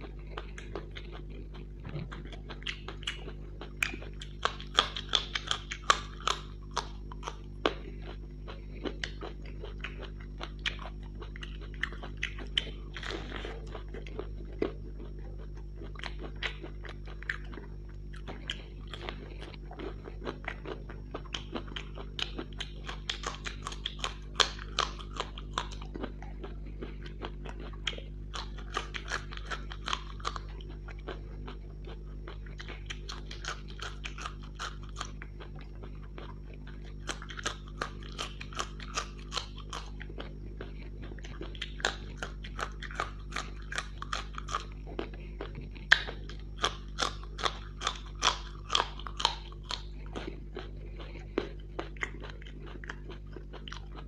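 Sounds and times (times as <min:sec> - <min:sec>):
crunchy food chewing: 0:00.0 - 0:54.0
steady low hum: 0:00.0 - 0:54.0.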